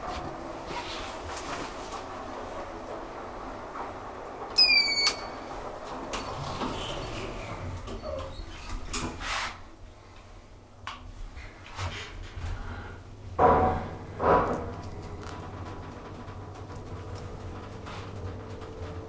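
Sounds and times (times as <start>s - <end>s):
elevator humming: 0.0s - 9.0s, 12.2s - 19.0s.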